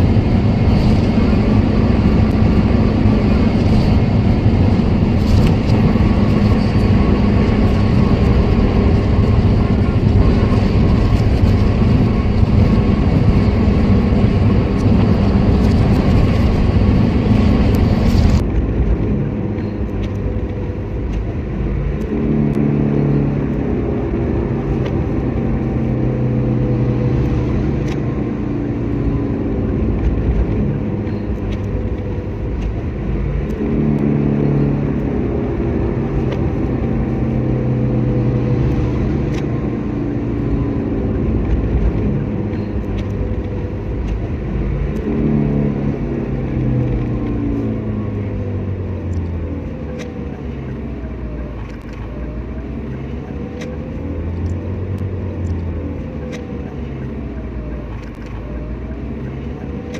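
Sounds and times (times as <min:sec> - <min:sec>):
road noise: 0:00.0 - 0:59.9
vehicle engine: 0:00.0 - 0:59.9.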